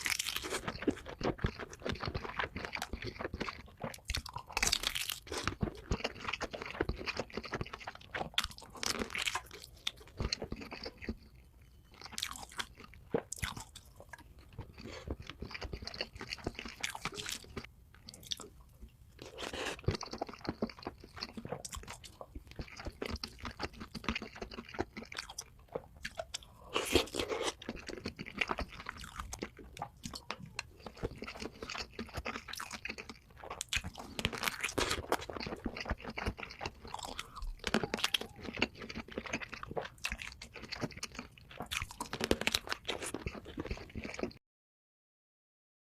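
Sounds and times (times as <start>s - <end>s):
crunchy chewing of food: 0.0s - 44.4s.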